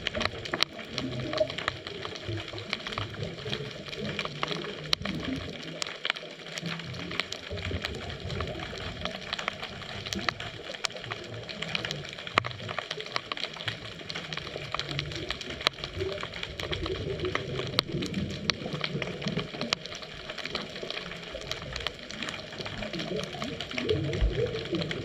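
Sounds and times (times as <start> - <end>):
sharp clicks and crackles: 0.0 - 25.0.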